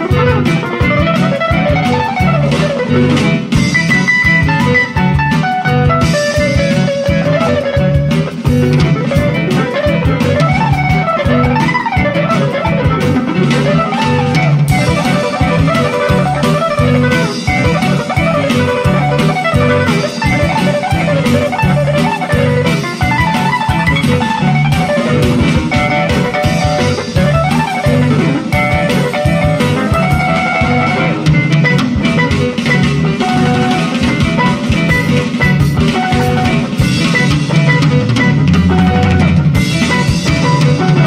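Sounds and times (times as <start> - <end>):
drums and bass beat: 0.0 - 41.0
lead melody with bending notes: 0.0 - 41.0.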